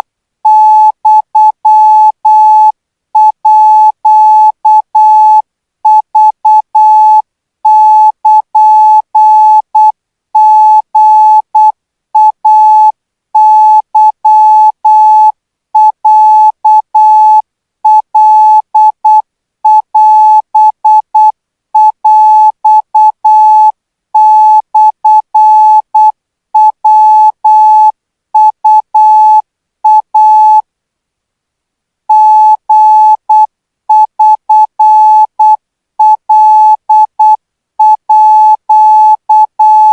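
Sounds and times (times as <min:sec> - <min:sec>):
morse code beeps: 0:00.5 - 0:30.6, 0:32.1 - 0:39.9.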